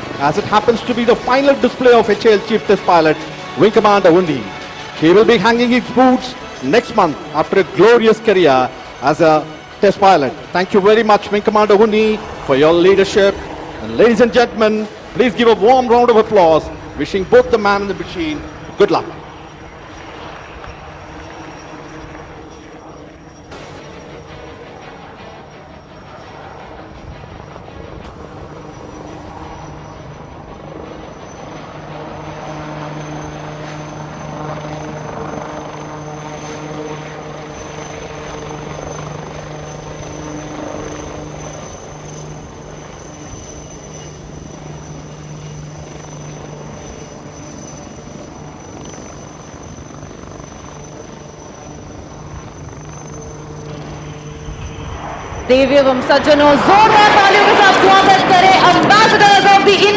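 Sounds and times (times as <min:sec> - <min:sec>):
helicopter drone: 0:00.0 - 0:59.9
high turbine whine: 0:00.0 - 0:59.9.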